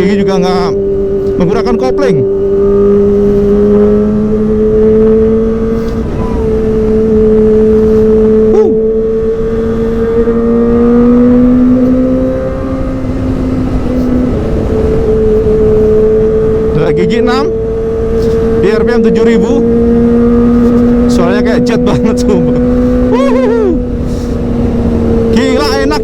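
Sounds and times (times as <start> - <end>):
motorcycle engine at high revs: 0.0 - 26.0
wind rushing over microphone: 0.0 - 26.0.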